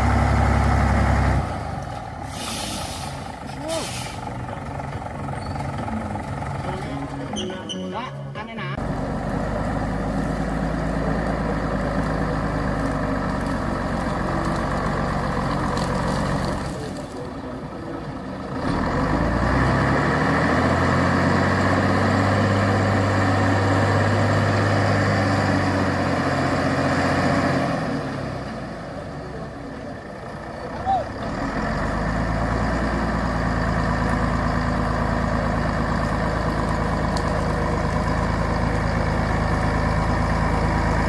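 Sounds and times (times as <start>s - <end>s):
truck engine straining: 0.0s - 41.0s.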